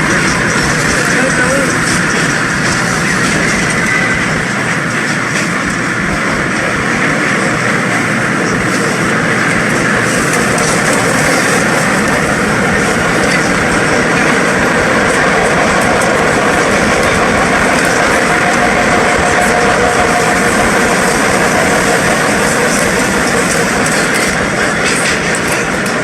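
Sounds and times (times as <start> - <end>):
subway train rumbling on track: 0.0 - 26.0.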